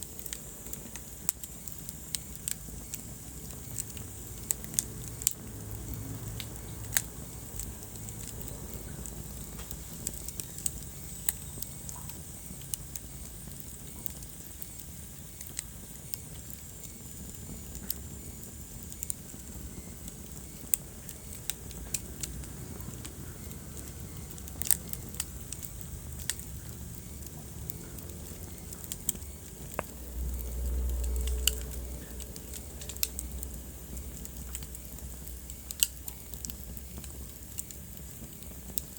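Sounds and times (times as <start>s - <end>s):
low rumble of flames: 0.0s - 38.9s
wood fire crackling: 0.0s - 38.9s.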